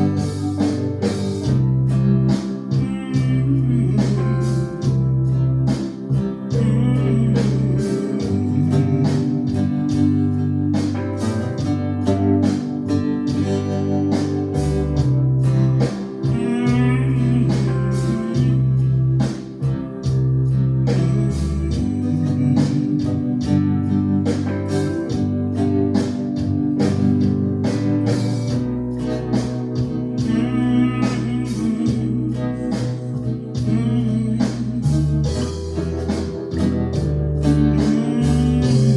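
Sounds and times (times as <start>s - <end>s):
bass line: 0.0s - 38.9s
blues guitar music: 0.0s - 38.9s
steady drum beat: 0.0s - 38.9s.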